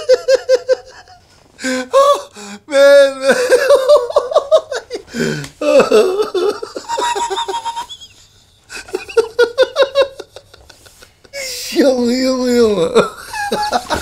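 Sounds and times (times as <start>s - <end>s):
man laughing hard: 0.0s - 11.6s, 12.9s - 14.0s.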